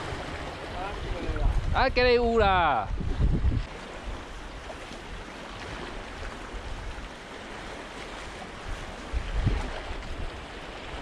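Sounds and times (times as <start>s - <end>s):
wind gust on microphone: 0.0s - 7.1s, 8.2s - 11.0s
seawater washing and splashing: 0.0s - 11.0s.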